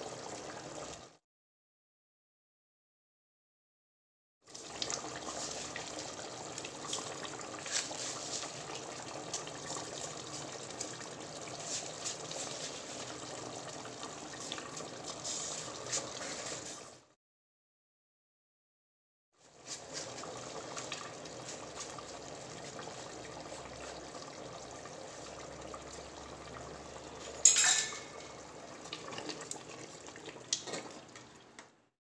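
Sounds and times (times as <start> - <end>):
liquid boiling with bubbling hiss: 0.0 - 1.2, 4.5 - 17.1, 19.4 - 31.6.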